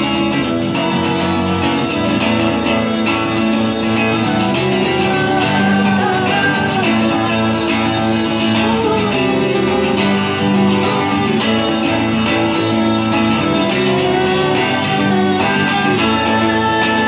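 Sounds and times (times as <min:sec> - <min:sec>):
electric guitars playing: 0:00.0 - 0:17.0.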